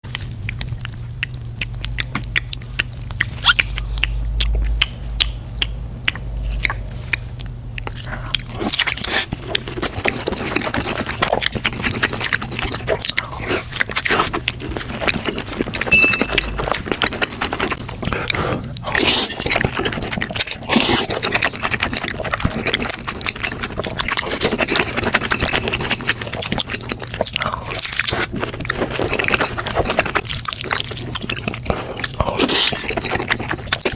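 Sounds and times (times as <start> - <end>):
crunching and chewing: 0.0 - 33.9.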